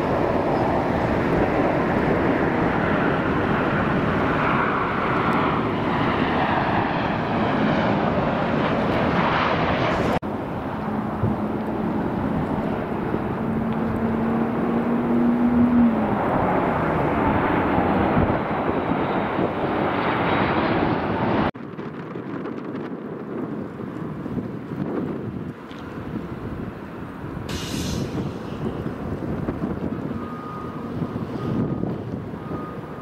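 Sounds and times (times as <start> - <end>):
jet engines rushing: 0.0 - 33.0.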